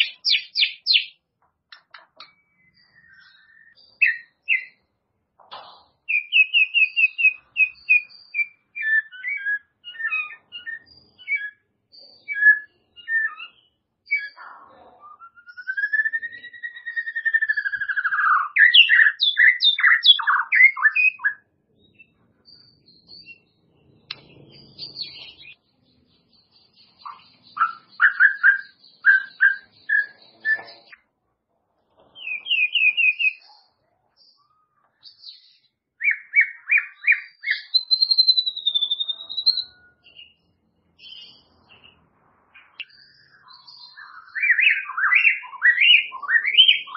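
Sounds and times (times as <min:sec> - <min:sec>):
songbird whistling and singing: 0:00.0 - 0:31.0, 0:32.2 - 0:42.0, 0:42.6 - 0:46.9.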